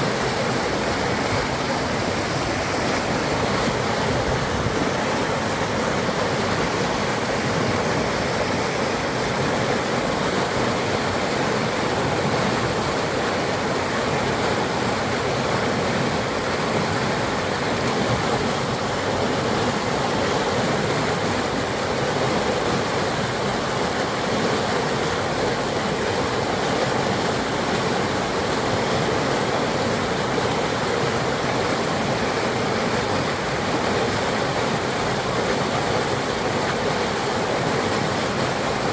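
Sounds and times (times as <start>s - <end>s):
flooded river rushing: 0.0s - 38.9s.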